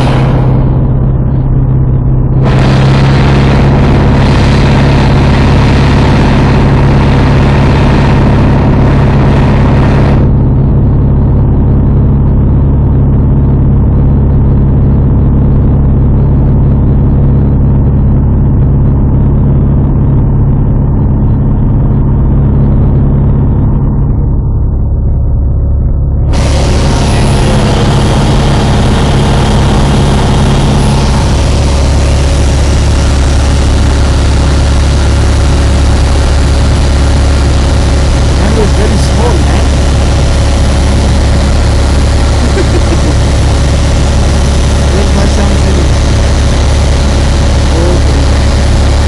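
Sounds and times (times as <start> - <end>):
light aircraft engine droning: 0.0 - 49.0.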